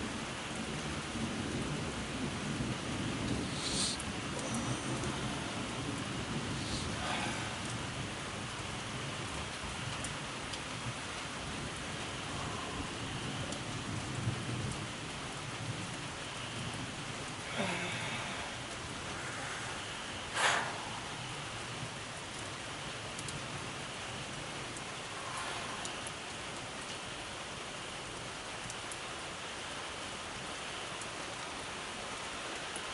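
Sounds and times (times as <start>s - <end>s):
low rumble of thunder: 0.0s - 27.9s
steady rain falling: 0.0s - 32.9s.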